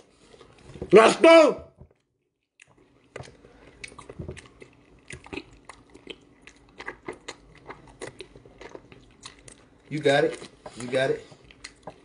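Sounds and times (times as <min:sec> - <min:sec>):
wet chewing and mouth smacks: 0:02.0 - 0:12.0.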